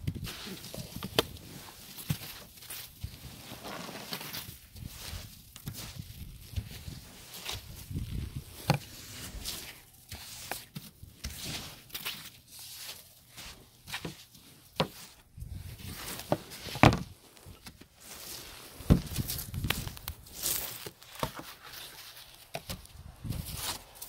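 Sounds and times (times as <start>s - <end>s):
brush swishing through snow: 0.3s - 10.7s, 11.3s - 24.0s.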